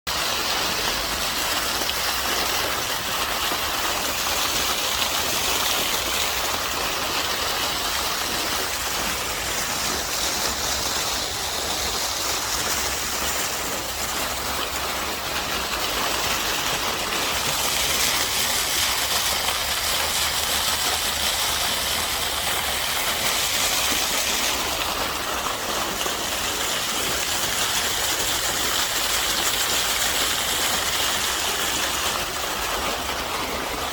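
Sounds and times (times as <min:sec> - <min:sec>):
stream water rushing: 0:00.1 - 0:33.9.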